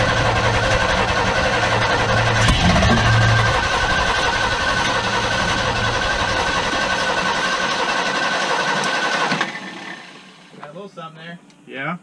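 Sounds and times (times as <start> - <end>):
engine cranking without starting: 0.0 - 10.5
starter motor whine: 0.0 - 10.5.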